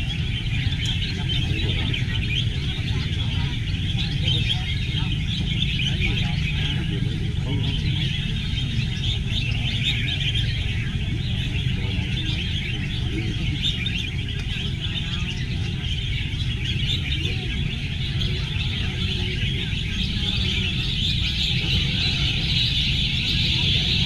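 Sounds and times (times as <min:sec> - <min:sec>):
birds chirping in chorus: 0:00.0 - 0:24.0
steady low rumble: 0:00.0 - 0:24.0.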